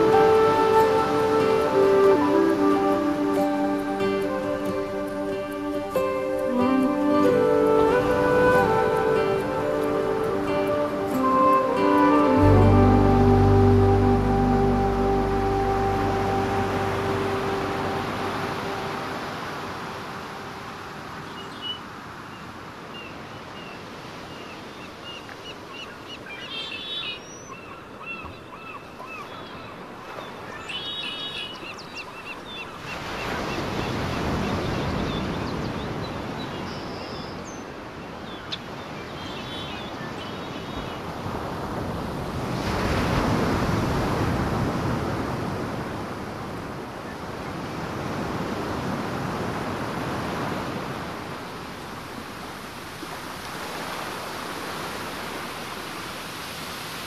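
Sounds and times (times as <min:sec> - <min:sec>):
ocean surf washing ashore: 0:00.0 - 0:25.8, 0:32.4 - 0:57.0.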